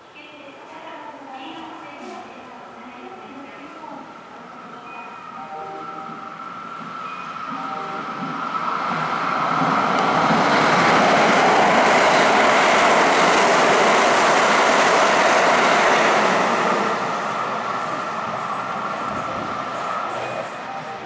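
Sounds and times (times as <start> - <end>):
electric train passing at speed: 2.6 - 21.0.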